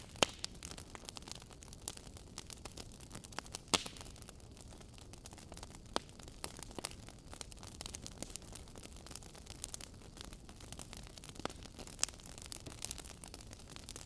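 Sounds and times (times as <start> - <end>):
logs crackling and popping: 0.0 - 14.0
low rush of flames: 0.0 - 14.0.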